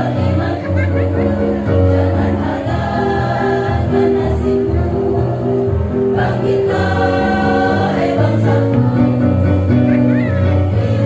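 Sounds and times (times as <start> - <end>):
women's choir singing: 0.0 - 11.0.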